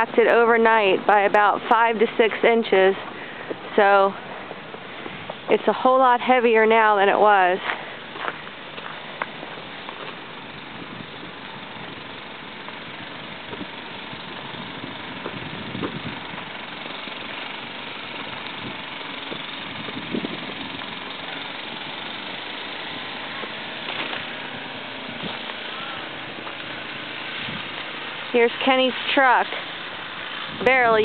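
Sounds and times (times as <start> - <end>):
snowblower engine running: 0.0 - 31.0.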